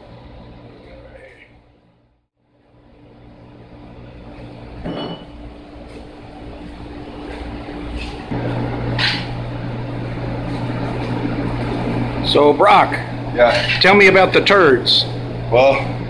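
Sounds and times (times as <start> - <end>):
machinery electric hum: 0.0 - 16.0.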